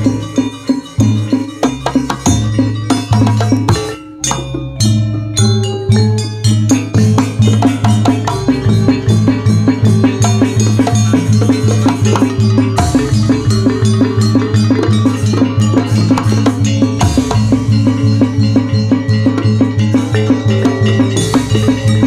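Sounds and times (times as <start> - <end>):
drums: 0.0 - 22.0
metallophones ringing: 0.0 - 22.0.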